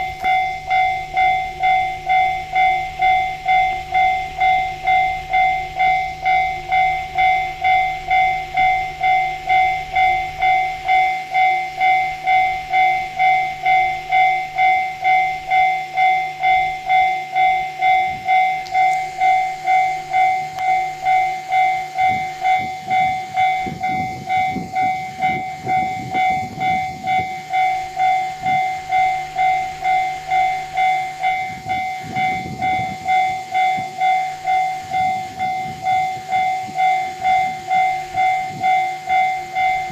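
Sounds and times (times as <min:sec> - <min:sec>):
level crossing bell ringing: 0:00.0 - 0:39.9
train rumbling over crossing: 0:00.0 - 0:39.9.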